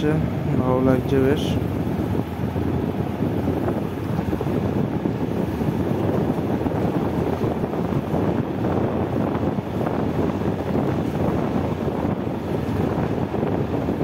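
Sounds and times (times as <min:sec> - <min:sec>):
motorcycle engine rumble: 0:00.0 - 0:14.0
wind buffeting microphone: 0:00.0 - 0:14.0.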